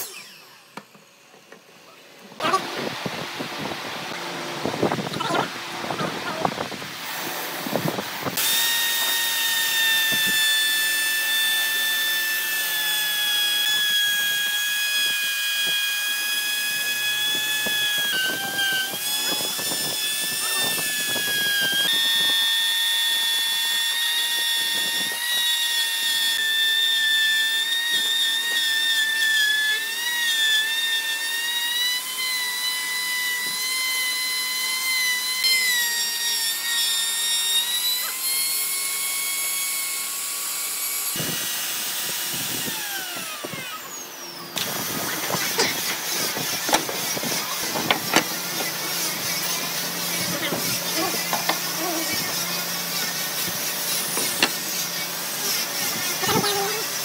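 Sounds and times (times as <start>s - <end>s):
power tool motor whine: 0.0s - 1.7s, 2.3s - 57.0s
rasping of cutting wood: 8.4s - 44.0s, 44.6s - 56.8s.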